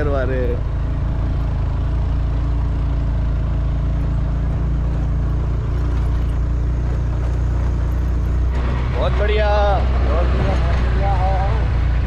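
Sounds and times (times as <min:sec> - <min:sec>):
vehicle engine running steadily: 0:00.0 - 0:12.0.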